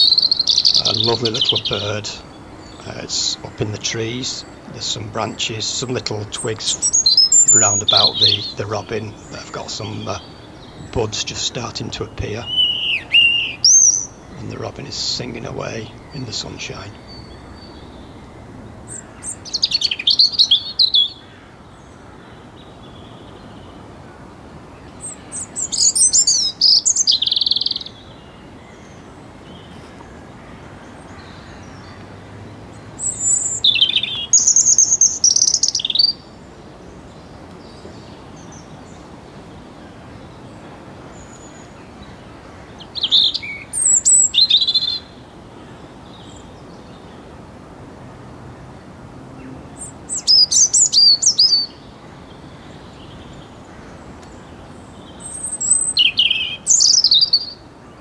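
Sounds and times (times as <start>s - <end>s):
robin singing: 0.0s - 58.0s.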